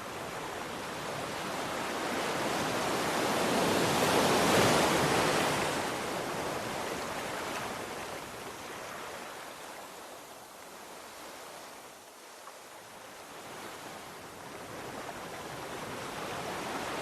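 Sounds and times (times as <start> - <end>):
ocean waves breaking on shore: 0.0 - 11.8, 13.2 - 17.0.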